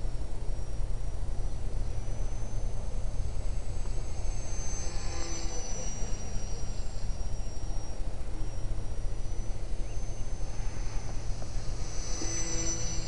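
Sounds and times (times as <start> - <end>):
model airplane engine whine: 0.0 - 13.0.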